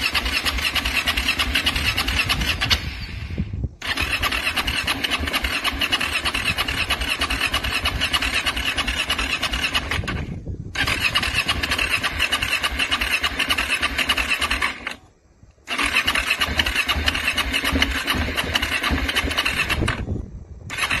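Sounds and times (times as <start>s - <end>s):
electric starter cranking engine: 0.0s - 21.0s.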